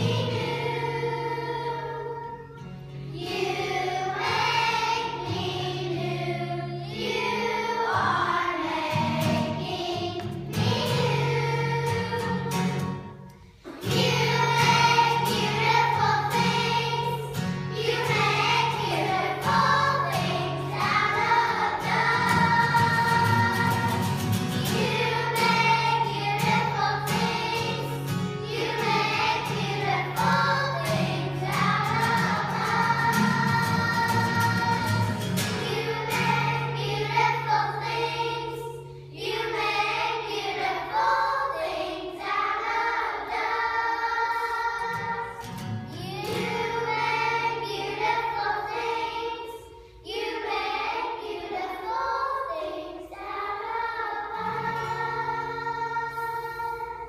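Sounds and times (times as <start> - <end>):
strummed acoustic guitar: 0.0 - 40.9, 41.5 - 49.2, 53.6 - 57.0
children's choir singing: 0.0 - 57.0.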